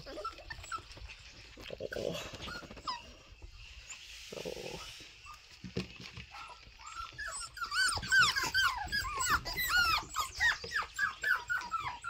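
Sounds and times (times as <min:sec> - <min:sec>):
puppies whimpering and squeaking: 0:00.0 - 0:12.0.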